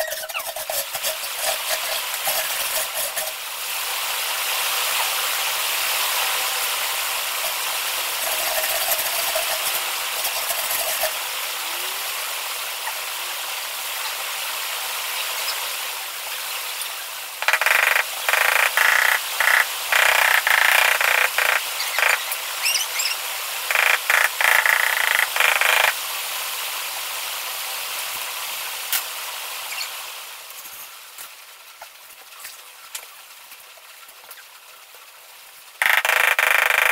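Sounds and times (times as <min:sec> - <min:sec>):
steady hiss: 0:00.0 - 0:36.9.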